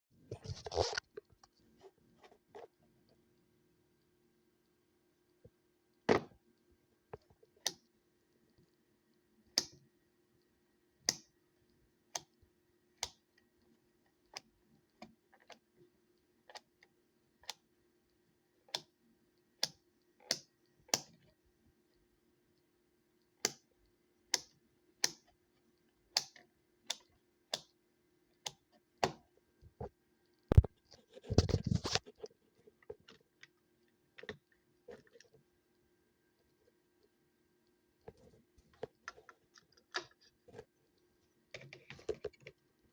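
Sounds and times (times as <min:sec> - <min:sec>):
faint steady hum: 0:00.2 - 0:42.9.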